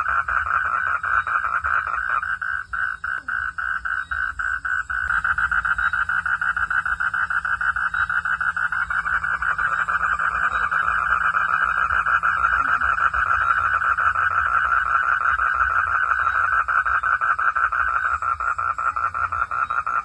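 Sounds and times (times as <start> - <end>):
frogs calling in chorus: 0.0 - 20.0.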